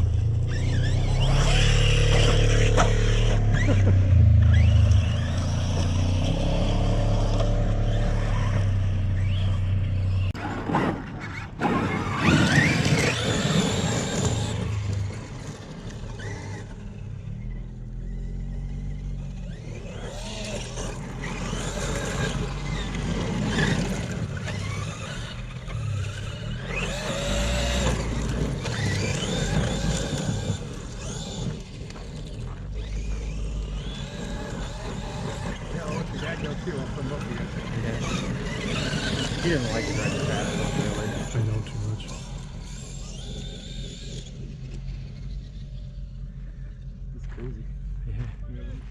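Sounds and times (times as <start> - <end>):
electric motor whining: 0.0 - 10.4, 11.6 - 47.4.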